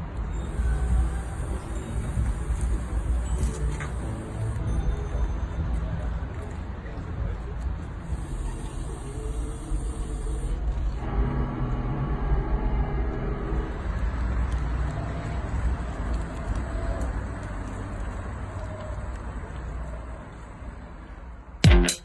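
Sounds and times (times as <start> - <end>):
car driving off: 0.0 - 4.8, 8.0 - 21.0.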